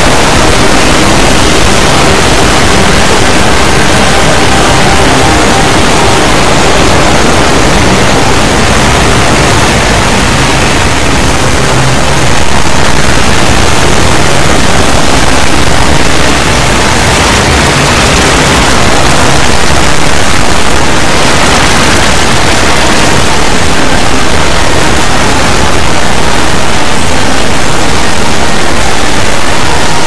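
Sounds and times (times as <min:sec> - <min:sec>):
distorted static-like noise: 0:00.0 - 0:30.0.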